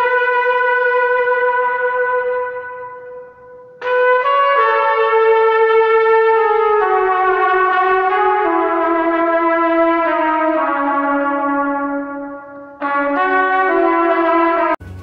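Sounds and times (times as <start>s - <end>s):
brass-like held notes music: 0.0s - 15.0s.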